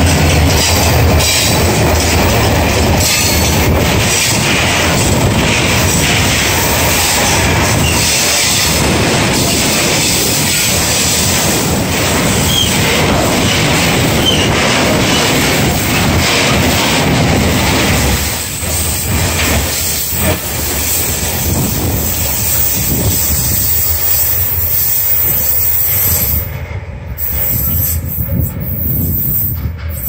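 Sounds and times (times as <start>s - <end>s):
freight train wheels clattering: 0.0s - 30.0s.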